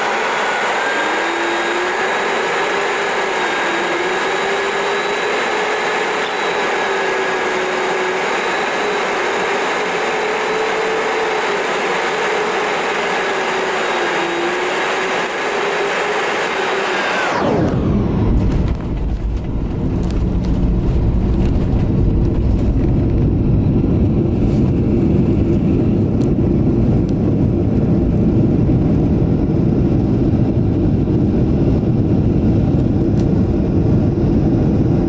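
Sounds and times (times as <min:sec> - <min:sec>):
airplane cabin airflow rush: 0:00.0 - 0:35.0
jet engine hum: 0:00.0 - 0:35.0.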